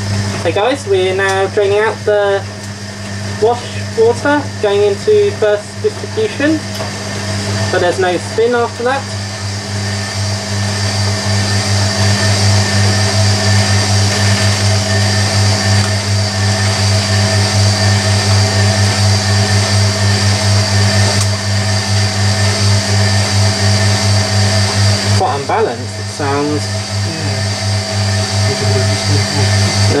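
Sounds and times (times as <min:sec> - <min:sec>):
washing machine drain pump hum: 0:00.0 - 0:30.0.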